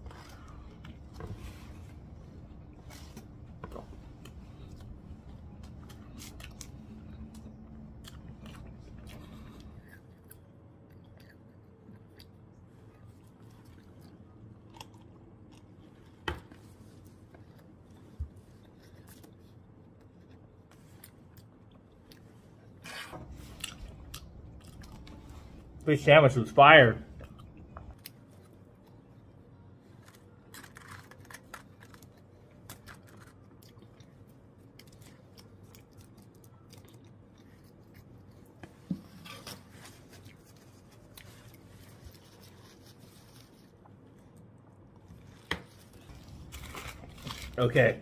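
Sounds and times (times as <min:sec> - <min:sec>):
chewing crunchy sandwich: 0:00.0 - 0:25.8, 0:27.0 - 0:48.0.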